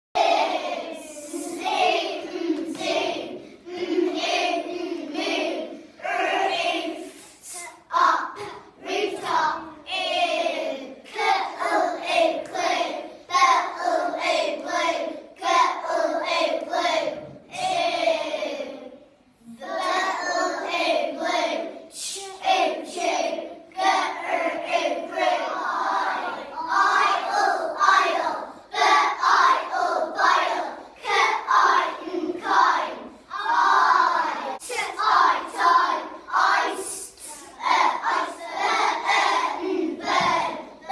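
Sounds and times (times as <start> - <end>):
children singing in unison: 0.2 - 40.9.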